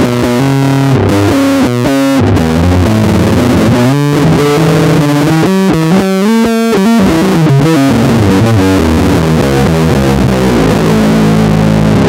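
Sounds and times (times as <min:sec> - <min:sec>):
electric bass fast riff: 0:00.0 - 0:12.0.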